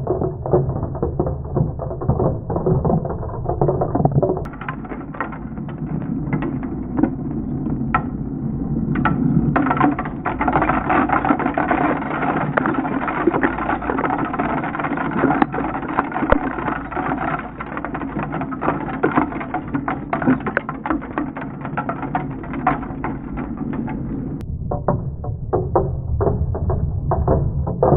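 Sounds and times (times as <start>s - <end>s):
plastic bricks clattering: 0.0s - 24.4s.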